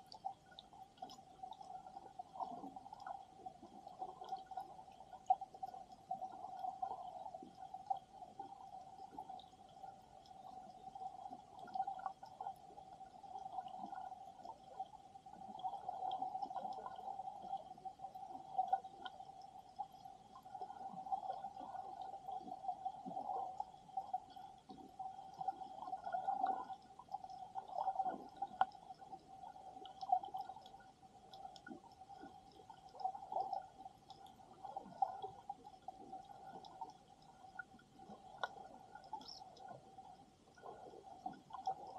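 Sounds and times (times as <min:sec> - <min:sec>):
underwater gurgling and sloshing: 0:00.0 - 0:41.9.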